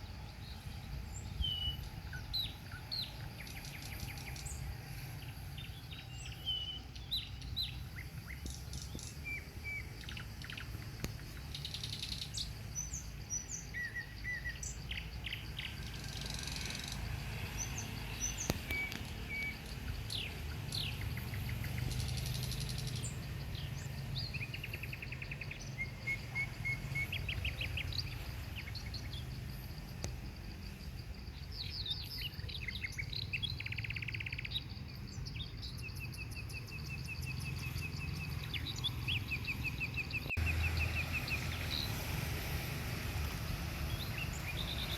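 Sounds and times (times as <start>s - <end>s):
birds chirping and trilling: 0.0s - 44.9s.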